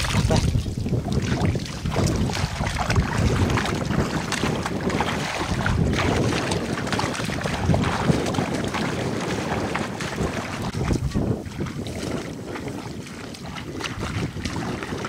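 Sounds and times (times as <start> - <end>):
footsteps splashing in muddy water: 0.0 - 15.0
wind buffeting microphone: 0.0 - 15.0.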